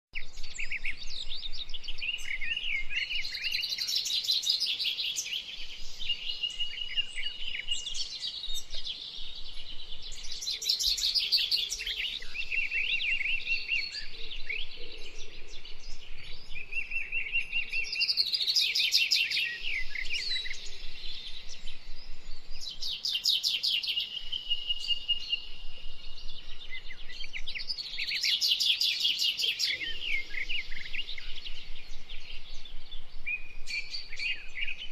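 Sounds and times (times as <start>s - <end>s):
blackbirds buzzy trilled song: 0.2s - 34.9s.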